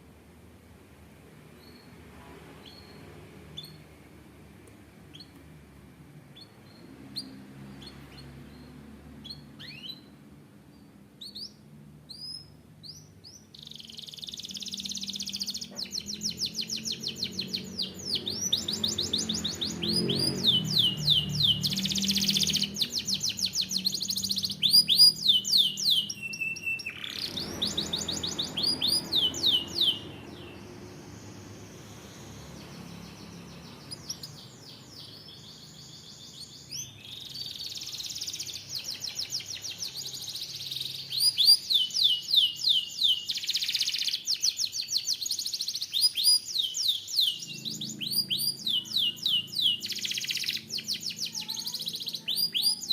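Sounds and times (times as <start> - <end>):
canary singing: 1.5 - 4.0, 5.0 - 52.9.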